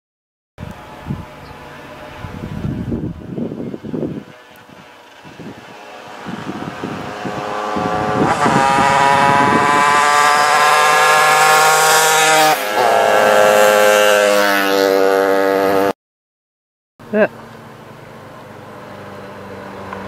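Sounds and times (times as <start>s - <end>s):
moped engine approaching: 0.7s - 15.9s, 17.1s - 20.0s.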